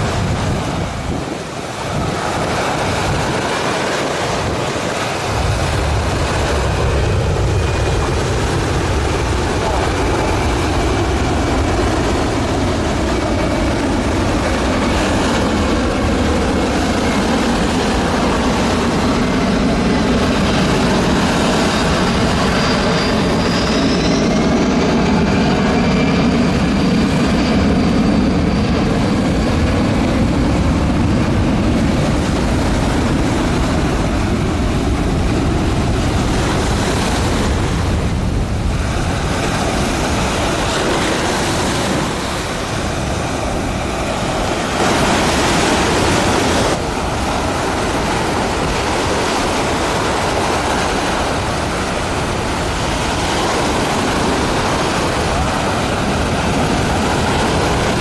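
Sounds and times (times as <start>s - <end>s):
surf: 0.0s - 23.9s, 25.2s - 58.0s
jet engines roaring past: 0.0s - 58.0s
wind on microphone: 0.0s - 58.0s.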